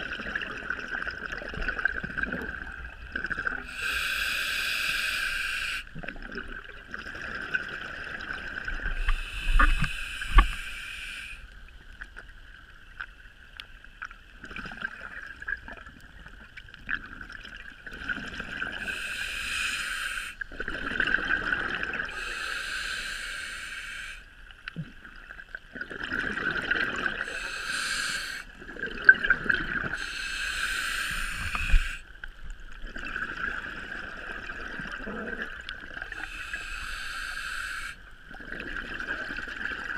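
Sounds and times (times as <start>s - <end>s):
exhaled bubbles gurgling underwater: 0.0s - 39.9s.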